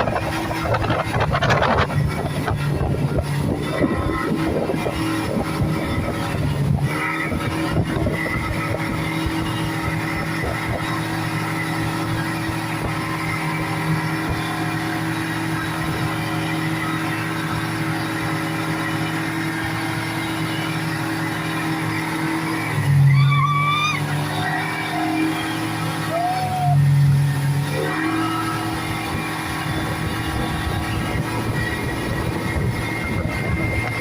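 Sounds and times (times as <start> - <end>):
speedboat engine running: 0.0 - 34.0.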